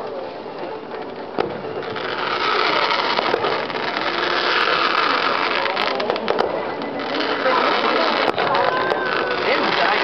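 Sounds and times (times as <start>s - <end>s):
distant fireworks: 0.4s - 10.0s
firework bang: 1.4s - 10.0s
firework cracks: 1.4s - 10.0s.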